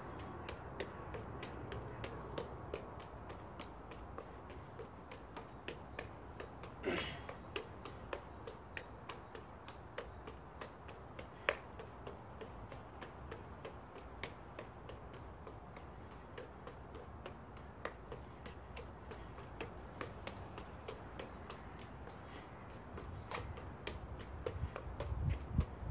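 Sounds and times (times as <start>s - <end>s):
juggling clubs slapping into palms: 0.0s - 25.9s.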